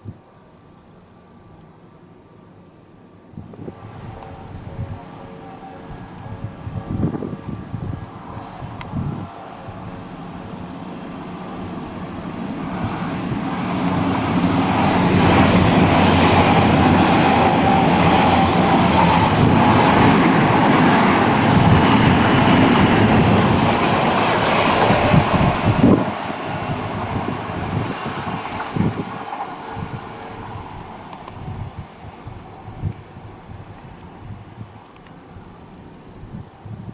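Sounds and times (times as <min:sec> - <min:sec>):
train wheels rumbling: 0:03.6 - 0:34.1.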